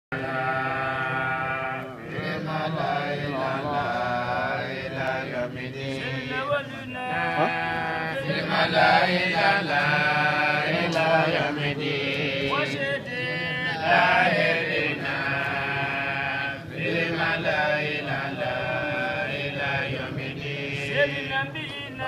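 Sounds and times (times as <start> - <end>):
person chanting recitation: 0.1 - 22.0.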